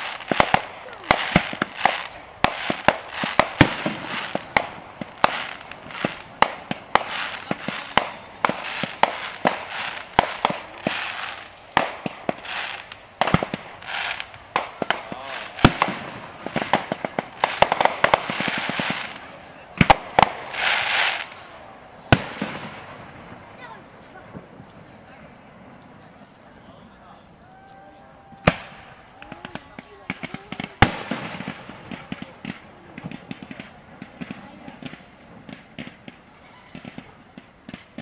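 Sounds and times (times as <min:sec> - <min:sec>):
firework bangs: 0:00.0 - 0:38.0
firework hiss: 0:00.0 - 0:38.0.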